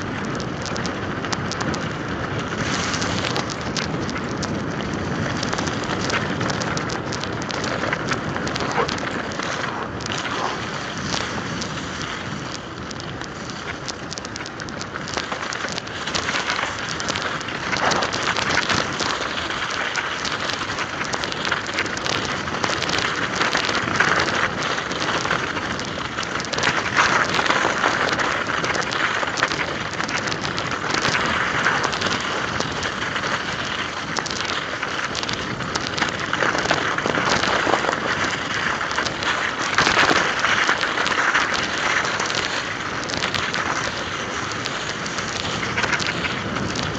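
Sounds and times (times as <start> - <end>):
bike tyres crackling over ice: 0.0 - 46.9.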